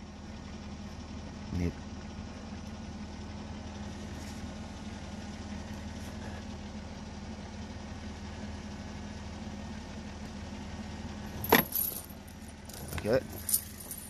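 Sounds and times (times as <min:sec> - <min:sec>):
minivan engine idling: 0:00.0 - 0:14.0.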